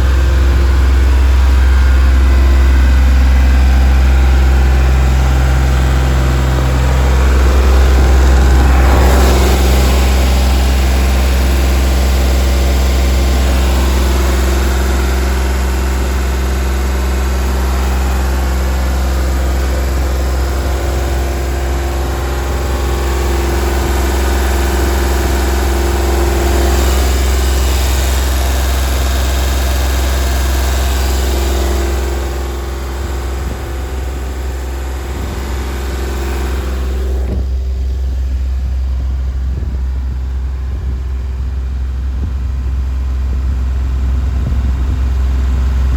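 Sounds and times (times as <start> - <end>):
diesel compressor engine running: 0.0 - 45.9.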